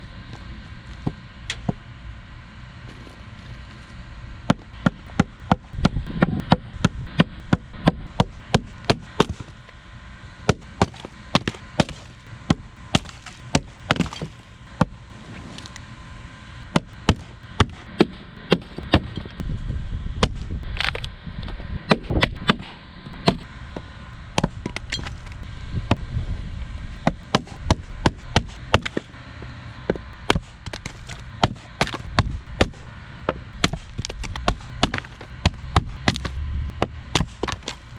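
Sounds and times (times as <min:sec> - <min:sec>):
blade chopping log: 0:01.0 - 0:01.8, 0:04.4 - 0:09.6, 0:10.4 - 0:15.8, 0:16.7 - 0:19.4, 0:20.2 - 0:26.0, 0:27.0 - 0:37.9.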